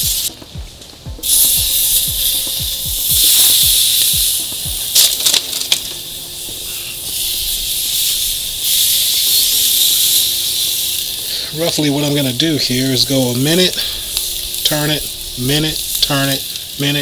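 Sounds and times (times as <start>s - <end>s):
steak sizzling on grill: 0.0s - 17.0s.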